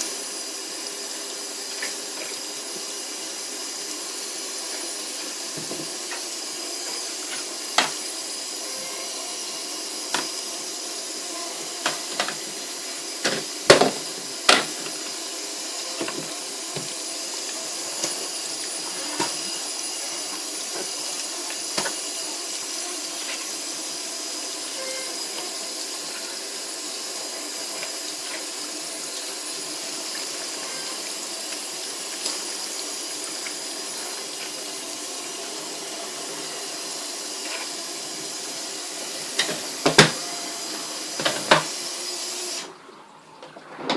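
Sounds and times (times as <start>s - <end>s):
water running in washing machine: 0.0s - 43.9s.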